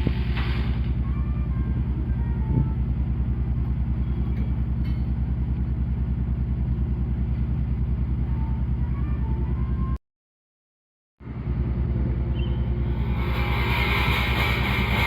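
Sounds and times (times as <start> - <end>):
diesel engine throbbing: 0.0 - 10.0, 11.2 - 15.0.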